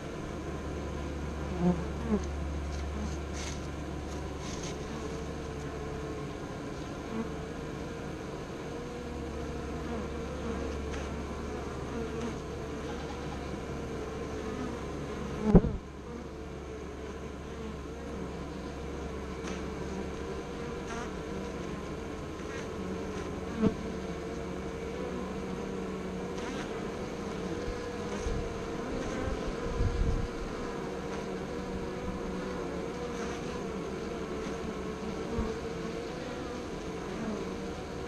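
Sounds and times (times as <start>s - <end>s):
honeybees buzzing: 0.0s - 38.0s.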